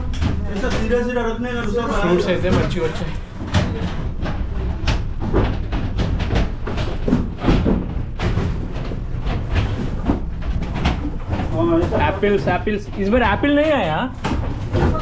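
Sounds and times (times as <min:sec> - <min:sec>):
plastic crates knocking on metal shelving: 0:00.0 - 0:15.0.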